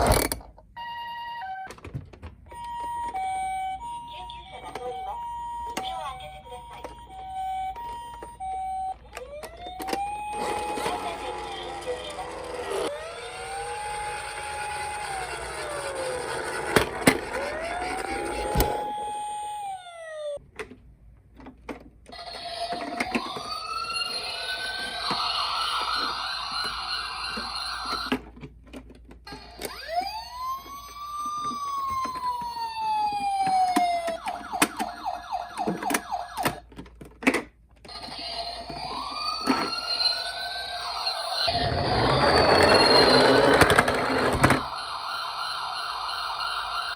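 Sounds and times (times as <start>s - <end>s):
toy electronic siren wailing: 2.5s - 20.4s, 22.1s - 28.2s, 29.3s - 36.6s, 37.9s - 46.9s.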